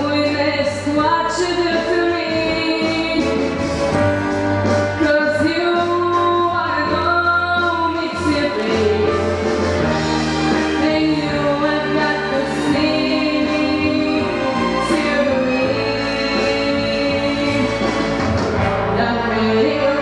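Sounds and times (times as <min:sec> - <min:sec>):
young woman singing: 0:00.0 - 0:03.4, 0:05.0 - 0:09.2, 0:10.6 - 0:17.9, 0:18.9 - 0:20.0
musical backing with bass: 0:00.0 - 0:20.0.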